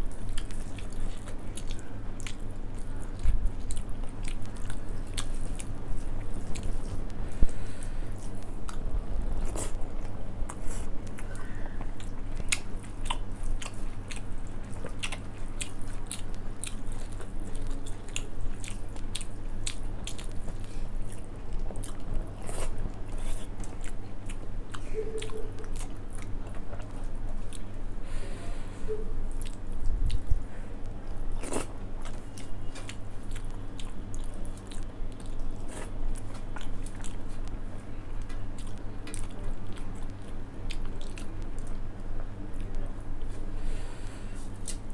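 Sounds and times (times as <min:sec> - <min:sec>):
person chewing food: 0:00.0 - 0:28.2, 0:29.2 - 0:41.9
steady low hum: 0:00.0 - 0:44.9.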